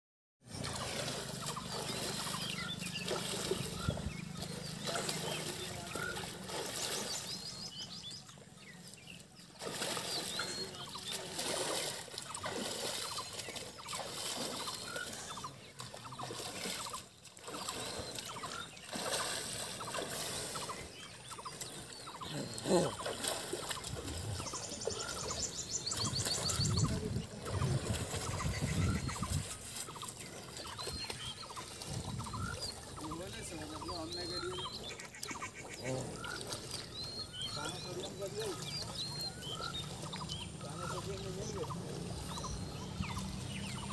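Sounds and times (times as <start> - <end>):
water splashing and trickling: 0.4 - 43.9
bird chirps: 0.5 - 43.9.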